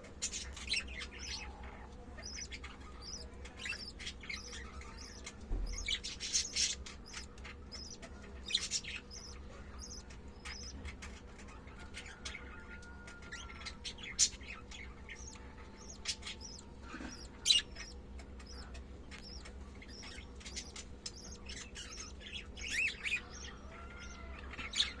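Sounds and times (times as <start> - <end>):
faint steady hum: 0.0 - 25.0
budgerigars chirping: 0.1 - 25.0.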